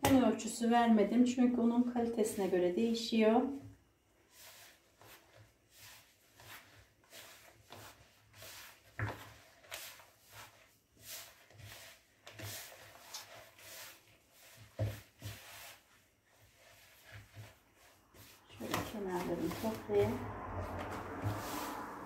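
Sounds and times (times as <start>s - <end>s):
dough squishing in plastic bowl: 0.0s - 22.0s.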